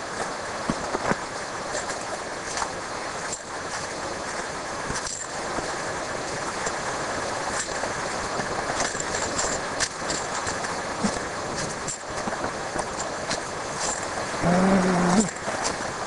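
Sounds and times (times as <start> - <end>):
stream and waterfall rushing: 0.0 - 16.0.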